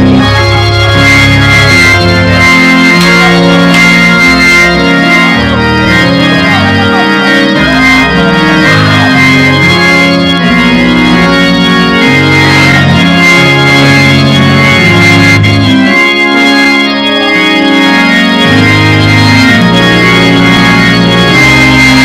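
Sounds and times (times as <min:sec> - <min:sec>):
organ playing sustained chords: 0:00.0 - 0:22.0.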